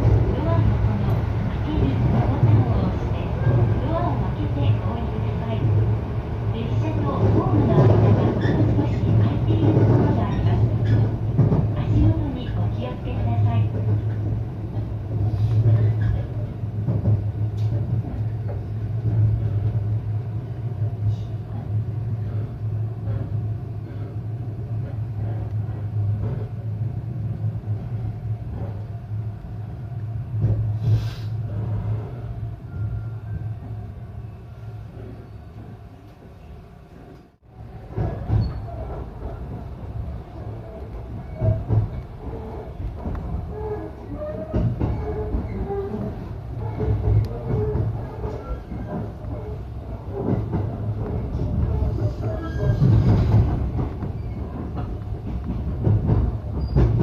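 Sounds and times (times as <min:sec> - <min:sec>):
train carriage rumbling hum: 0:00.0 - 0:57.0.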